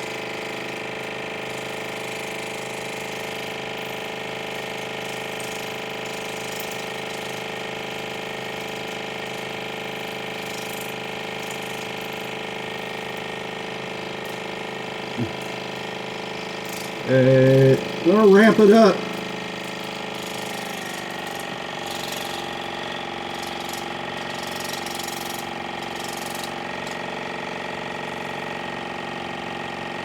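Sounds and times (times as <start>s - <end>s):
water pick pump buzzing: 0.0s - 30.0s.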